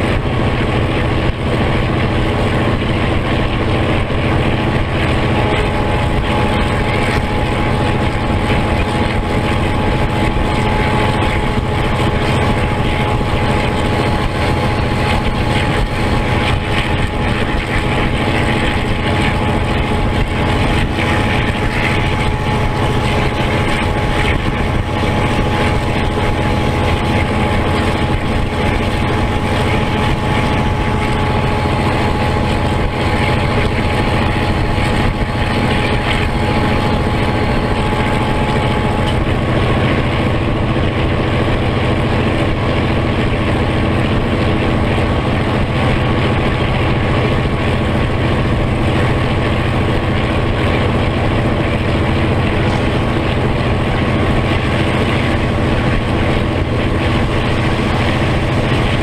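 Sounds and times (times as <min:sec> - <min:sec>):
diesel locomotive engine running: 0:00.0 - 0:59.0
thin steady whine: 0:00.0 - 0:59.0.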